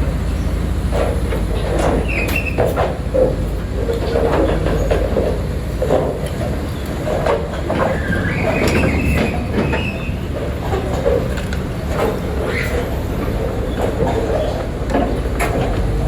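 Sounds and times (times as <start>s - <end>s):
heavy construction machine running: 0.0s - 16.0s.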